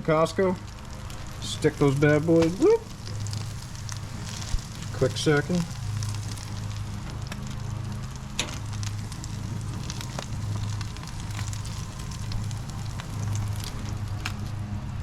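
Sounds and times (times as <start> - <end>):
butter sizzling in skillet: 0.0 - 15.0
steady low hum: 0.0 - 15.0.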